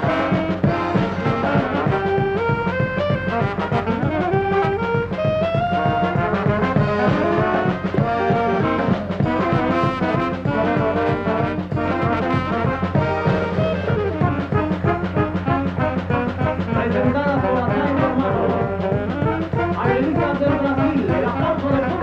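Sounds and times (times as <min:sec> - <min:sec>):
brass band music: 0:00.0 - 0:22.0.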